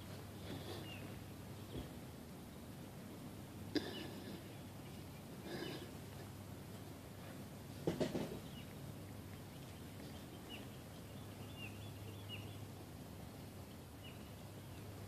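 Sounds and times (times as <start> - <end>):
low outdoor ambience hum: 0.0 - 15.0
small birds chirping: 0.0 - 15.0.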